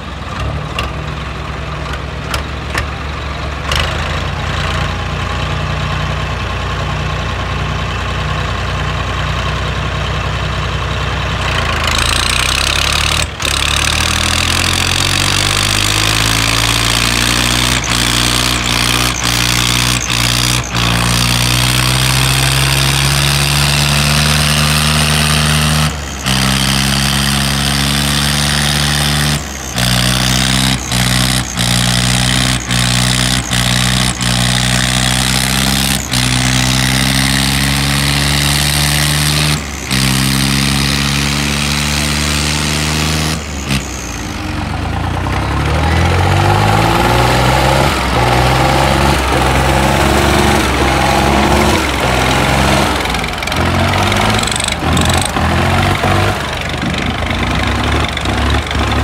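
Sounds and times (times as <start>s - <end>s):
diesel tractor engines running: 0.0s - 59.0s.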